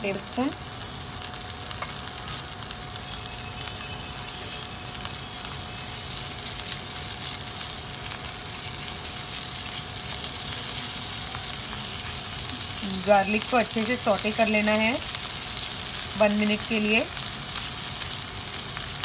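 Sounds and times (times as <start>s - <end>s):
garlic sizzling in butter: 0.0s - 19.0s.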